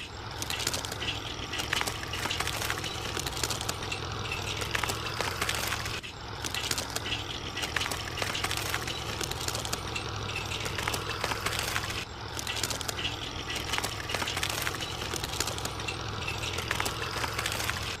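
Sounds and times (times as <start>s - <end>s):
clatter of small clicks and rattles: 0.0s - 18.0s
small motor running: 0.0s - 18.0s.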